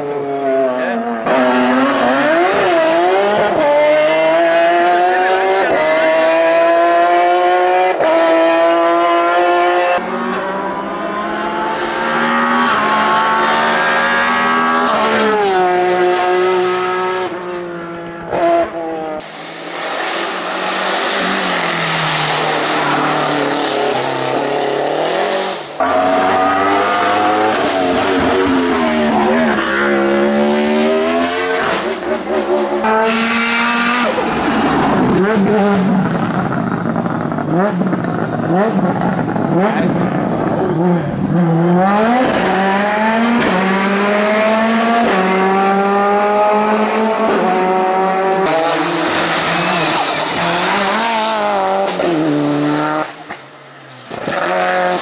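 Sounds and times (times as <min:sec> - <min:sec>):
race car engines at full throttle: 0:00.0 - 0:55.0.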